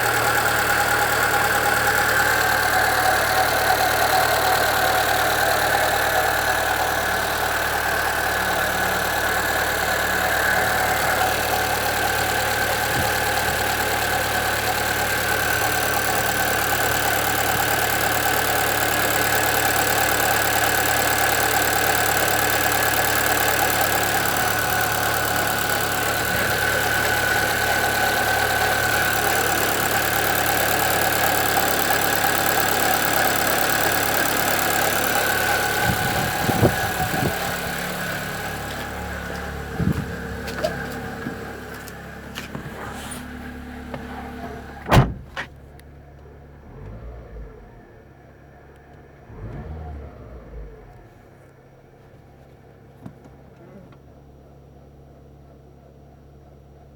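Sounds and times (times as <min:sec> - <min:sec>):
steady whine from engine belts: 0:00.0 - 0:51.6
car engine idling: 0:00.0 - 0:56.9.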